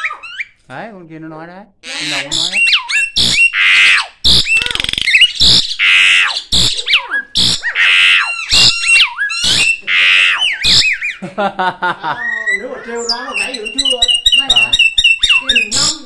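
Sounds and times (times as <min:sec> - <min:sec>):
starling calling loudly: 0:00.0 - 0:00.6, 0:01.8 - 0:11.2, 0:12.2 - 0:16.0.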